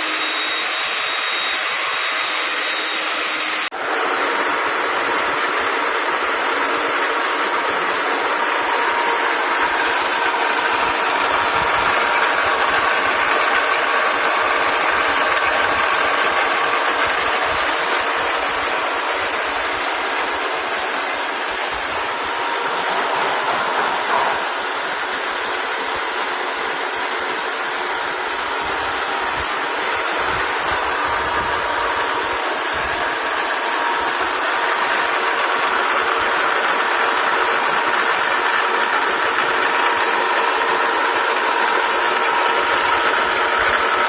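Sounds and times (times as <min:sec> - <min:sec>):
metal lathe running: 0:00.0 - 0:44.0.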